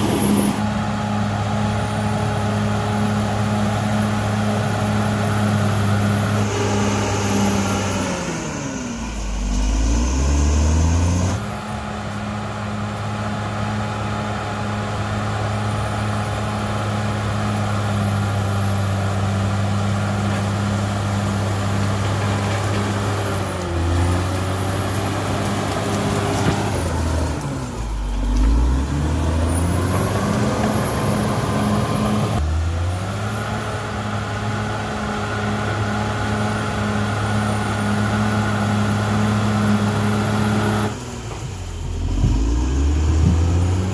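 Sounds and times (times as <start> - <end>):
bulldozer diesel engine revving: 0.0 - 43.9.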